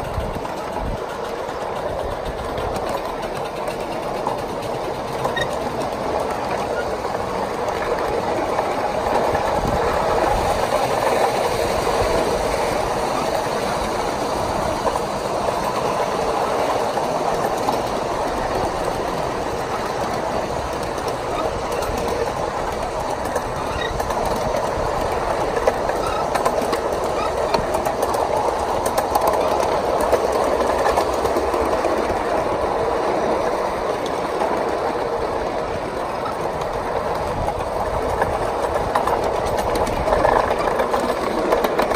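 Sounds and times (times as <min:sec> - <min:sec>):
faint clicks over rail joints: 0:00.0 - 0:41.9
train wheels rumbling on rails: 0:00.0 - 0:41.9.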